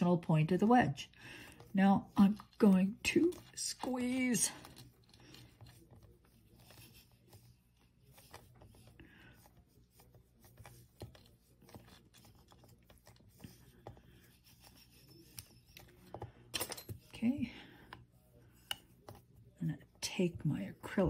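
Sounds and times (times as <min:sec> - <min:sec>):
fingers squeezing clay: 0:01.5 - 0:21.0.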